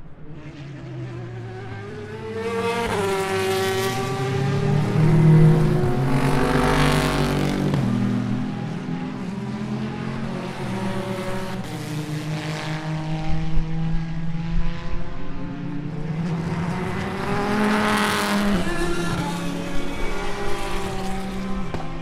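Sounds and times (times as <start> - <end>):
race car engines at speed: 0.0 - 22.0.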